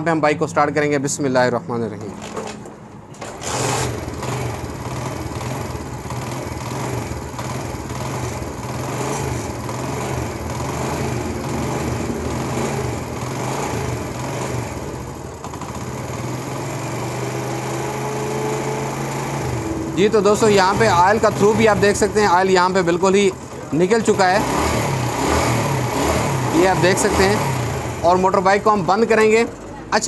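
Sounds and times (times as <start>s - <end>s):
motorcycle engine running: 3.2s - 30.0s.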